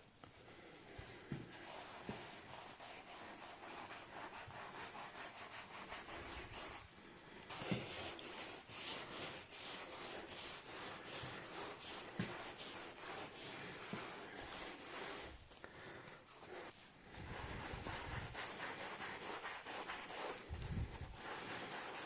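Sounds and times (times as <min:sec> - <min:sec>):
hand sanding on steel: 0:01.0 - 0:22.0.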